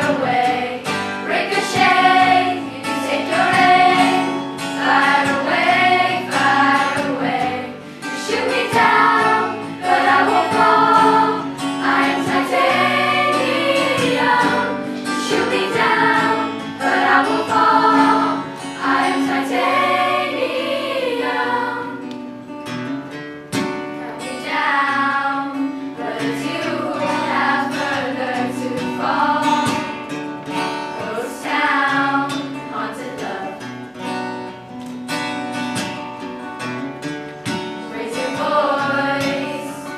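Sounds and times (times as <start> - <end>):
children's choir singing: 0.0 - 22.1, 24.0 - 30.1, 30.8 - 33.8, 37.6 - 39.9.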